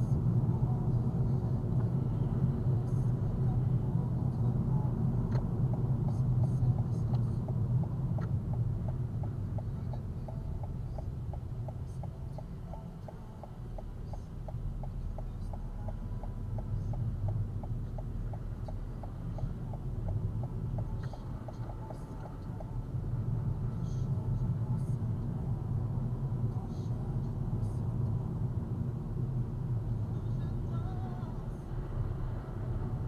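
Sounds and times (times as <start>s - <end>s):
engine and road rumble: 0.0s - 33.0s
turn signal ticking: 0.1s - 33.0s.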